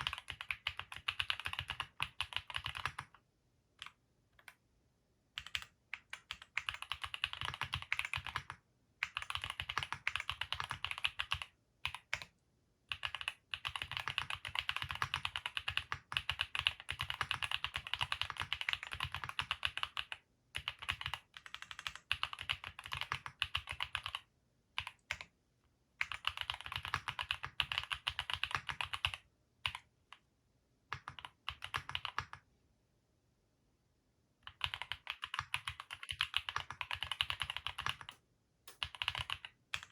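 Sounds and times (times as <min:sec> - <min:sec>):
mechanical keyboard typing: 0:00.0 - 0:03.2, 0:05.4 - 0:12.3, 0:12.9 - 0:25.3, 0:26.0 - 0:29.8, 0:30.9 - 0:32.4, 0:34.4 - 0:39.9.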